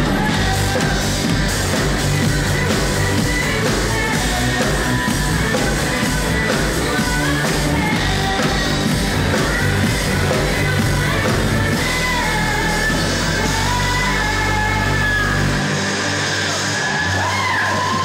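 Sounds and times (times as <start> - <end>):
drum kit: 0.0 - 18.0
person singing: 0.0 - 18.0.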